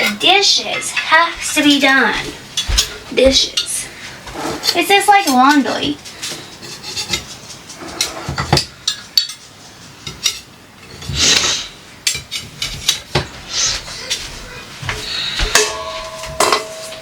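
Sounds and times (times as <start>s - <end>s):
dishes and cutlery clinking: 0.0s - 17.0s.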